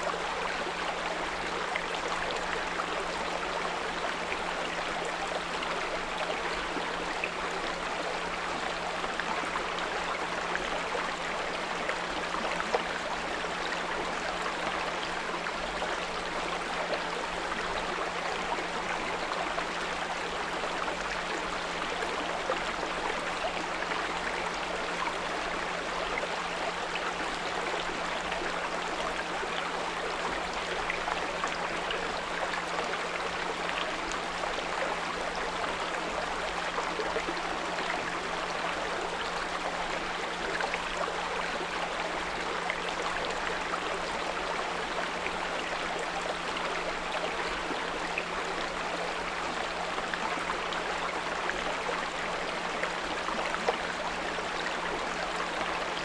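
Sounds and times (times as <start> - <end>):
brook trickling and babbling: 0.0 - 56.0.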